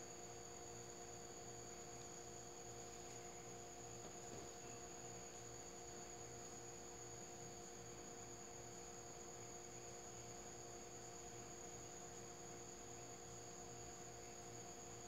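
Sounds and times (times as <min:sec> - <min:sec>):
faint high whine: 0:00.0 - 0:15.0
low background hum: 0:00.0 - 0:15.0.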